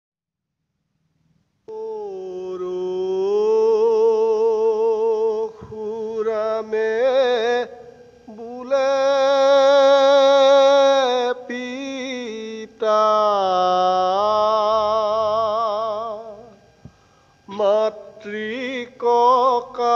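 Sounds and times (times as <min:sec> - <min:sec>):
man singing chant unaccompanied: 0:01.7 - 0:16.6, 0:17.5 - 0:19.9.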